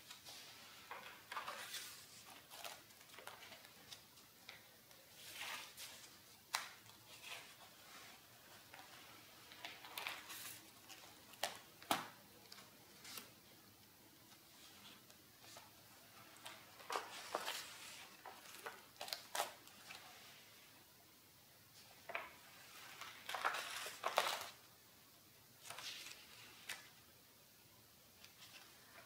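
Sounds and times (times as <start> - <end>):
paper pages rustling: 0.0 - 13.4, 14.3 - 20.5, 21.8 - 24.6, 25.6 - 27.0.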